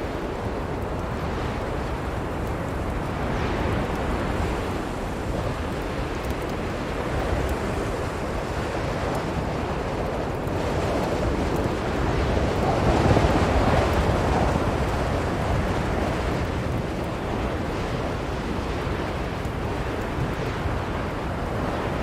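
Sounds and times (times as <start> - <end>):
strong blizzard wind: 0.0 - 22.0.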